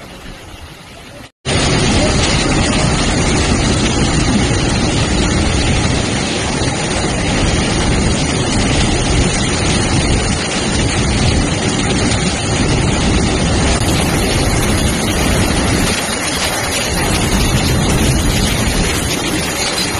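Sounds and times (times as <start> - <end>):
freight train rolling through water: 0.0 - 19.9
rushing water spray: 0.0 - 19.9.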